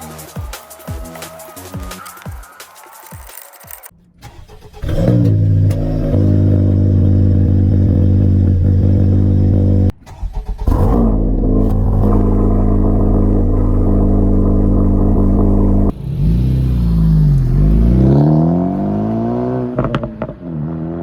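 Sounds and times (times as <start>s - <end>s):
car engine starting and idling: 3.3s - 20.3s.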